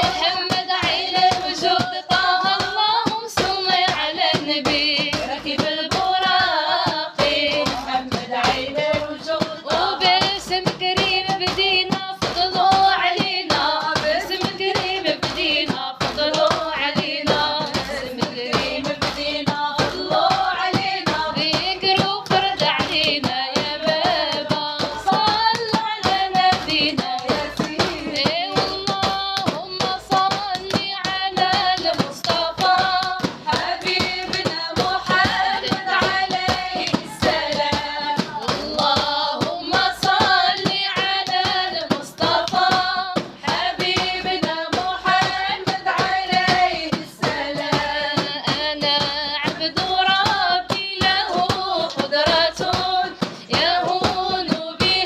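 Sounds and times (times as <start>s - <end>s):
group singing devotional song: 0.0s - 55.0s
percussion beat: 0.0s - 55.0s
rhythmic hand clapping: 0.0s - 55.0s.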